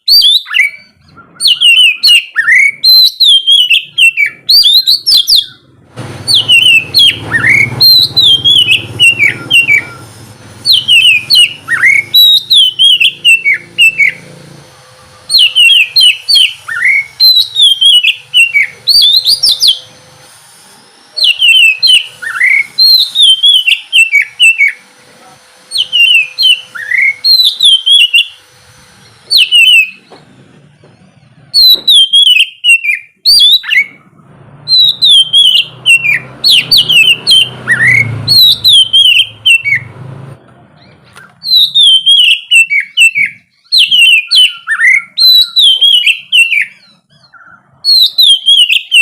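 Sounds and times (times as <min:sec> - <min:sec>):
bird singing whistled phrases: 0:00.0 - 0:05.7, 0:06.3 - 0:14.3, 0:15.3 - 0:19.9, 0:21.2 - 0:24.8, 0:25.7 - 0:28.4, 0:29.3 - 0:30.1, 0:31.6 - 0:34.0, 0:34.7 - 0:39.9, 0:40.8 - 0:49.0.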